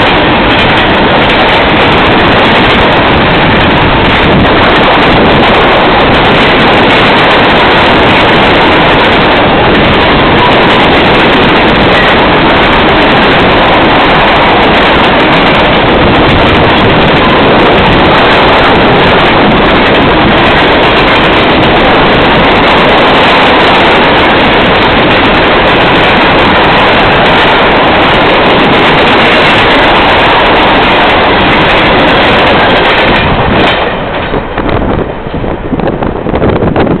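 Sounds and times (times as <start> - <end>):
train wheels rolling on rail: 0.0 - 37.0
wind on microphone: 0.0 - 37.0.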